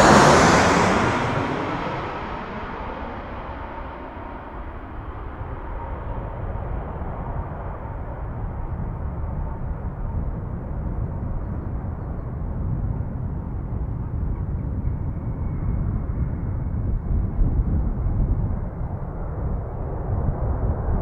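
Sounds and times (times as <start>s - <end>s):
aircraft engines rumbling: 0.0s - 21.0s.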